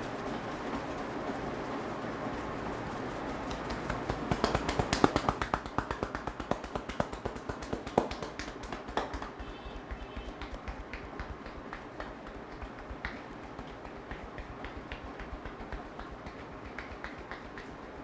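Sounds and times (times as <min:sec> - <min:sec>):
hands slapping on head: 0:03.5 - 0:18.0.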